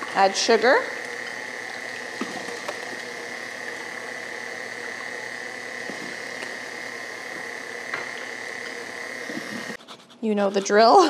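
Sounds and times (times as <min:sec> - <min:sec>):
stand mixer running: 0:00.0 - 0:09.8.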